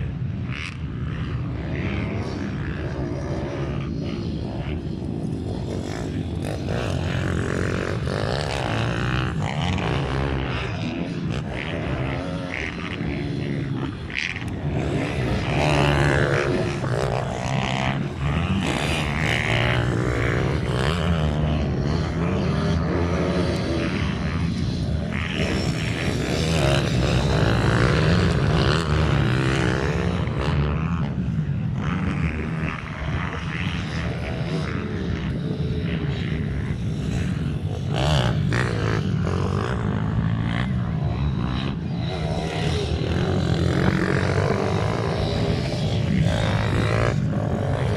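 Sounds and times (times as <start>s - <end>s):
minibike engines revving: 0.0s - 47.9s.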